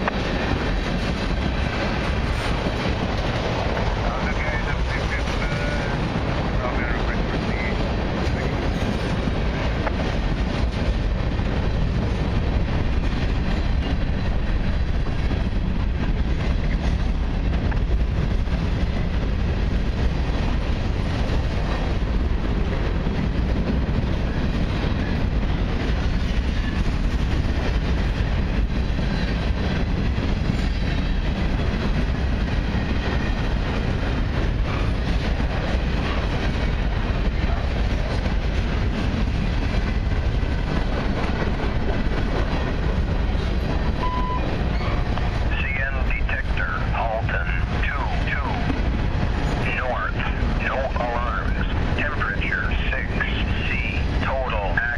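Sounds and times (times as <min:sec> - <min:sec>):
freight train wheels rumbling on rail: 0:00.0 - 0:54.9.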